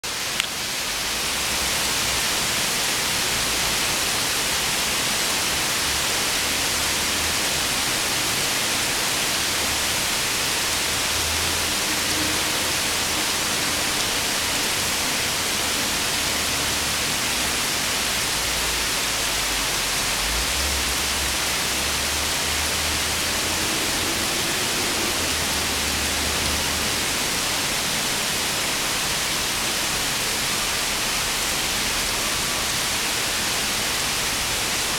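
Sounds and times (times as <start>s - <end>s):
rain falling on foliage: 0.0s - 34.9s.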